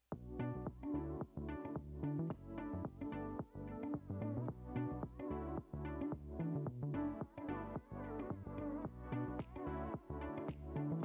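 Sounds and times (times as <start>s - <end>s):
background music with bass and chords: 0.1s - 11.0s.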